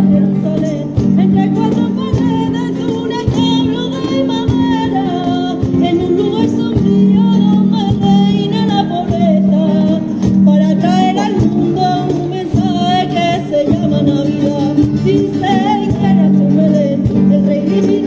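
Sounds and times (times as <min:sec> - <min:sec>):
strummed acoustic guitars: 0:00.0 - 0:18.0
women singing: 0:00.0 - 0:18.0.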